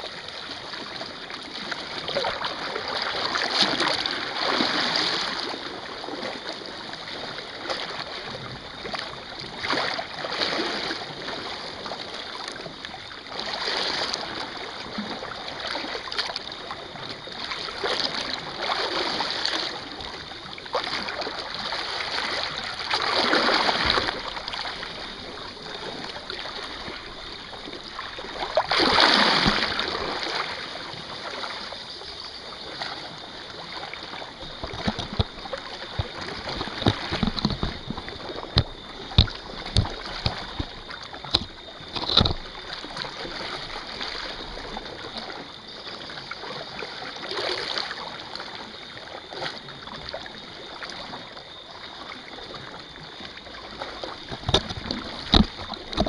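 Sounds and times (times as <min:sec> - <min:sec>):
waves splashing against rocks: 0:00.0 - 0:45.8, 0:53.6 - 0:56.0.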